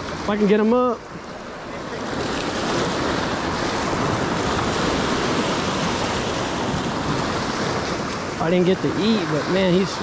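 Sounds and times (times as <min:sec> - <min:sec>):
waves washing against rocks: 0:00.0 - 0:10.0
wind buffeting microphone: 0:00.0 - 0:10.0.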